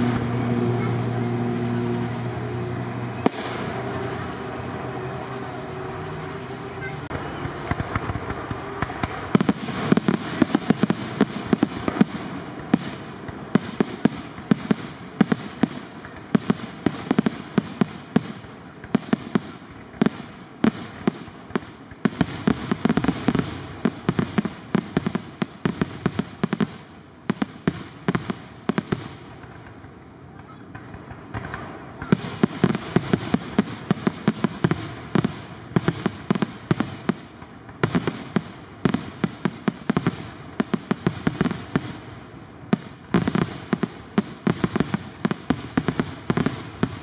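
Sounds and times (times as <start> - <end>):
fireworks launching and bursting: 0.0 - 47.0.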